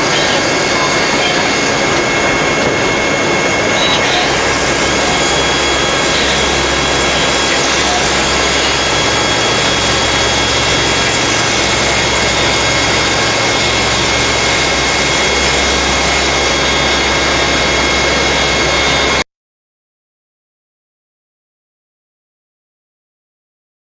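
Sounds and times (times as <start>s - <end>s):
lathe machining with high whine: 0.0s - 19.2s.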